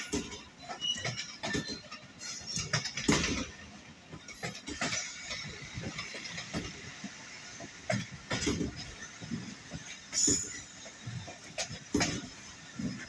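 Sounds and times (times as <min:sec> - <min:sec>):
train wheels knocking and rattling: 0:00.0 - 0:13.0.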